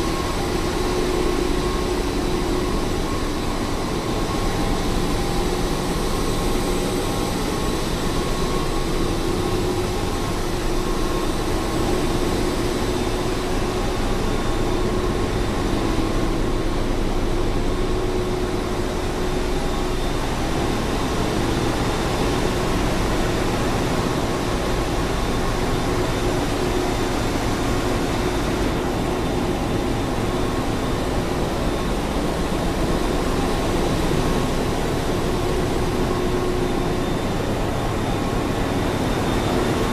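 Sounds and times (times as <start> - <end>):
engine room machinery roar: 0.0 - 39.9
steady whining tones: 0.0 - 39.9.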